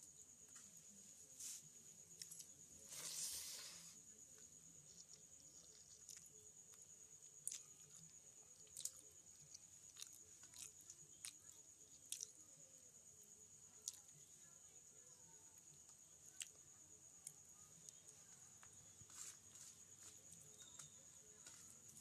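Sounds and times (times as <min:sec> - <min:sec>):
high insect trill: 0:00.0 - 0:22.0
fingers squishing rice: 0:01.4 - 0:12.6, 0:15.4 - 0:22.0.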